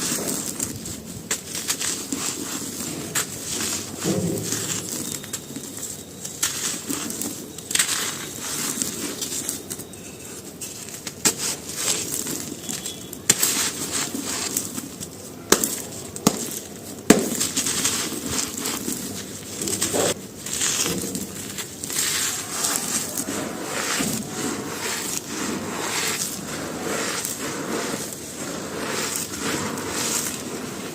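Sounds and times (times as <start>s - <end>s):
chalky pieces crunching: 0.0s - 30.9s.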